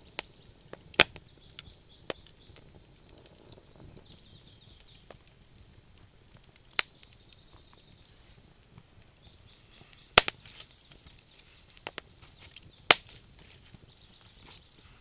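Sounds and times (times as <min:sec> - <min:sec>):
loud sharp pops from fire: 0:00.0 - 0:15.0
wood fire crackling: 0:00.0 - 0:15.0.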